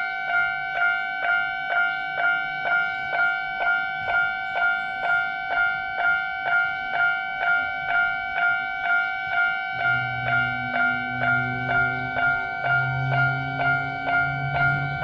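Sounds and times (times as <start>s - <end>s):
level crossing alarm ringing: 0.0s - 15.0s.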